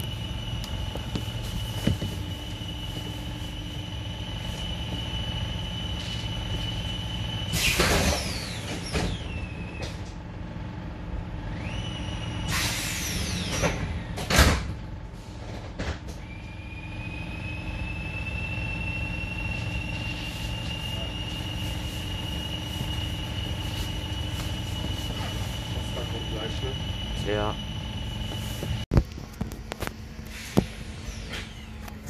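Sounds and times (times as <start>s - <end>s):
air hissing with falling whines: 0.0s - 32.0s
light-rail car high whine: 0.0s - 32.0s.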